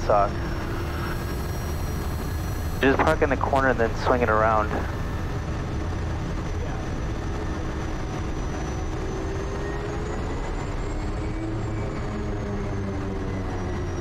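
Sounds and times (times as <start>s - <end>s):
high turbine whine: 0.0s - 14.0s
turboprop engine drone: 0.0s - 14.0s.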